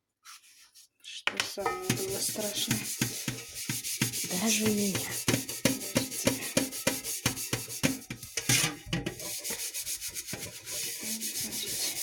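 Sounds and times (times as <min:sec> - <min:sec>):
scouring disc scrubbing a pot: 0:01.5 - 0:12.0.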